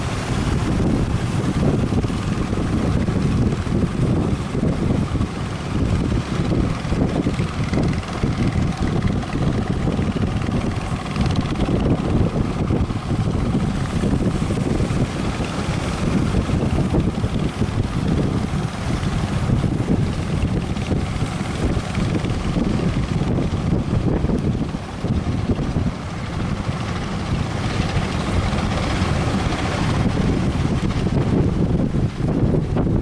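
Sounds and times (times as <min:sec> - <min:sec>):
boat motors running: 0:00.0 - 0:33.0
gusty wind on microphone: 0:00.0 - 0:33.0
surf: 0:00.0 - 0:33.0.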